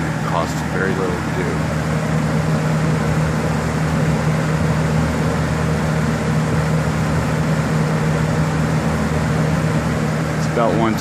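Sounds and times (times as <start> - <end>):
household fan blowing air: 0.0 - 11.0.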